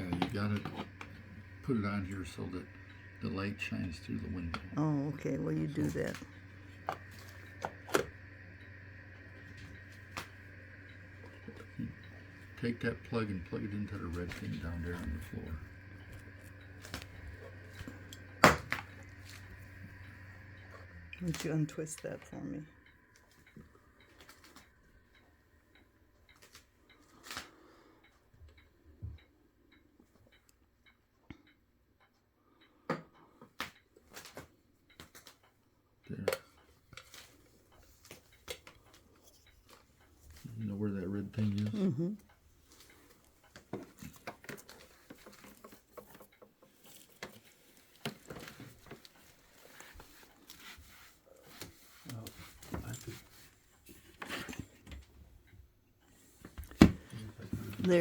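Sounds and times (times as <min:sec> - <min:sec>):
faint clicks and knocks: 0:05.4 - 0:58.0.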